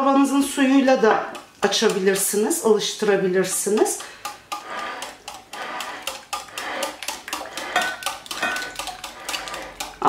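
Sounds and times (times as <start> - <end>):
whisk clicking against bowl: 1.1 - 10.0.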